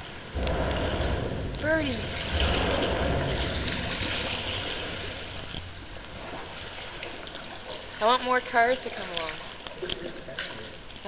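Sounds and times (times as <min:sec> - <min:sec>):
river water lapping and splashing: 0:00.0 - 0:11.0.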